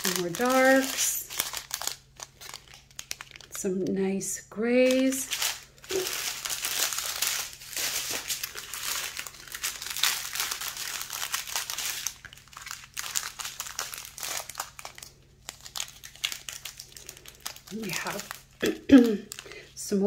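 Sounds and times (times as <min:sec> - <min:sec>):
plastic bags crinkling: 0:00.0 - 0:03.6, 0:04.8 - 0:19.8.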